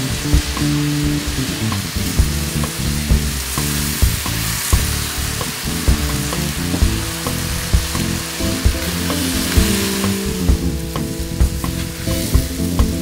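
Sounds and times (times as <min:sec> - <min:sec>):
background music with a beat: 0:00.0 - 0:13.0
food sizzling on a grill: 0:00.0 - 0:13.0.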